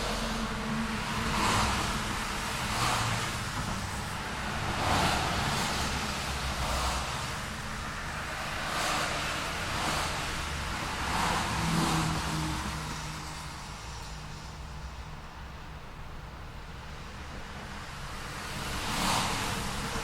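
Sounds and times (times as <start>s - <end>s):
cars passing: 0.0s - 20.0s
low hum of traffic: 0.0s - 20.0s.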